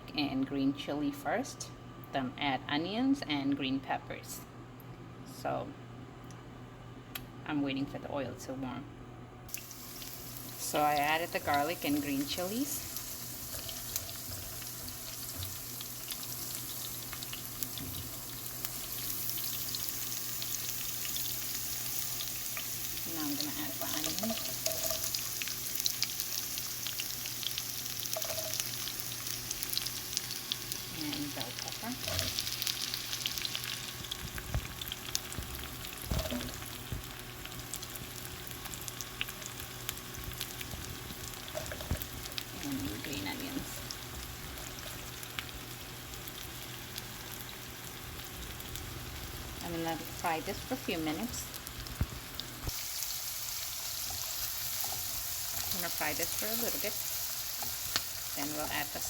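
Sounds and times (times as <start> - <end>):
food sizzling in hot oil: 9.5 - 59.0.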